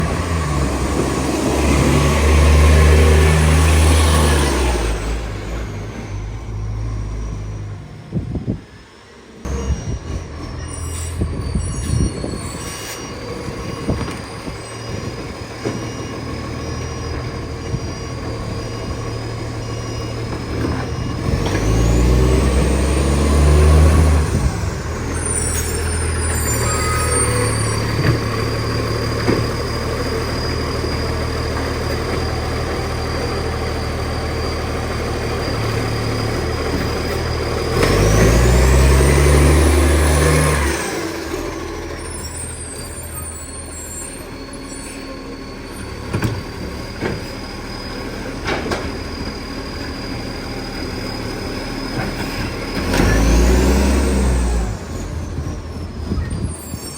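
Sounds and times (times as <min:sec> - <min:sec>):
diesel truck engine revving: 0:00.0 - 0:08.6, 0:09.2 - 0:56.9.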